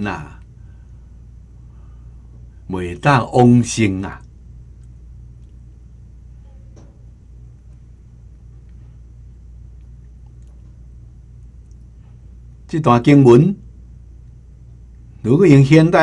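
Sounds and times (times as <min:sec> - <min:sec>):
faint hiss: 0:00.0 - 0:16.0
steady low hum: 0:00.0 - 0:16.0.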